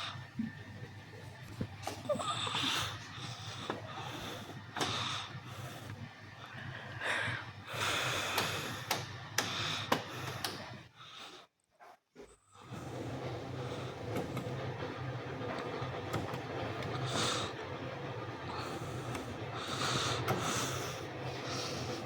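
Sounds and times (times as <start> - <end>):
washing machine running: 0.0 - 11.0, 12.6 - 22.0.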